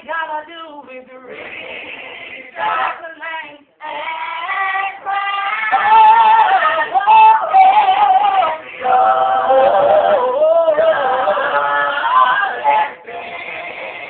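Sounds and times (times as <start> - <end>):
gospel vocal group singing: 0.0 - 14.0.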